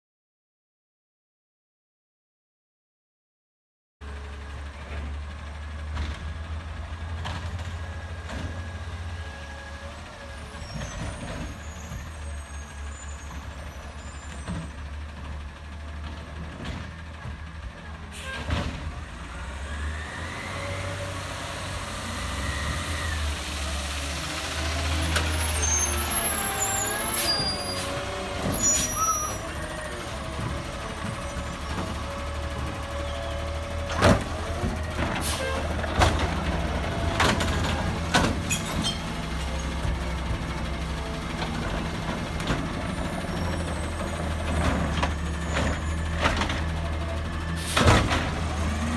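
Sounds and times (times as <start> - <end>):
truck engine hum: 4.0 - 48.9.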